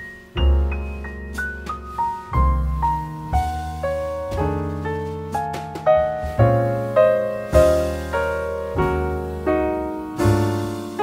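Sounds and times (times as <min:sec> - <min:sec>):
slow piano piece: 0:00.0 - 0:11.0.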